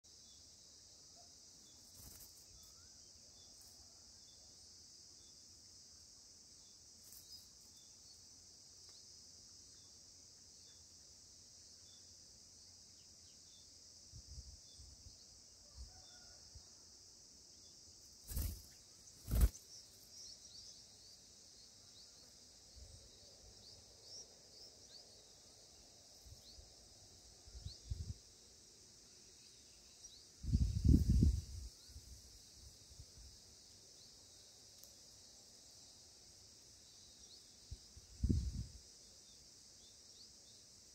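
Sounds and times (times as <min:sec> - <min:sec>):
insect chorus droning: 0:00.0 - 0:40.9.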